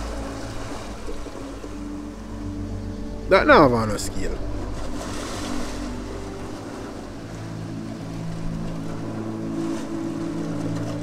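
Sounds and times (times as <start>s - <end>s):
engine drone: 0.0s - 11.0s
sea surf: 0.0s - 11.0s.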